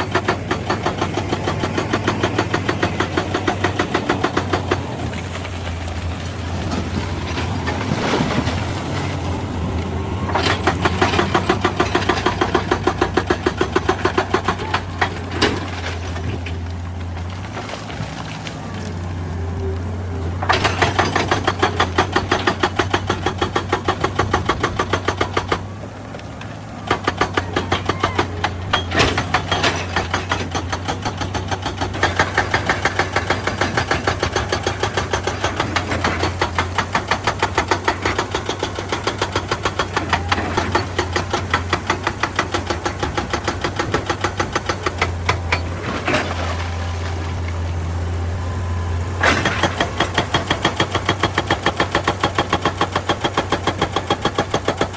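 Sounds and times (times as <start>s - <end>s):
hydraulic rock breaker hammering stone: 0.0s - 19.0s, 20.4s - 25.8s, 26.8s - 47.6s, 49.2s - 54.9s
diesel engine hum: 0.0s - 54.9s.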